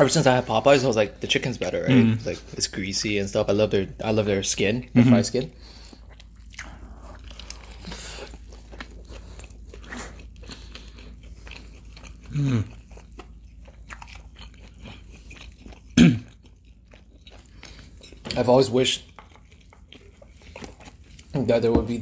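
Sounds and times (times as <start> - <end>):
chewing and crunching fried food: 0.0 - 22.0.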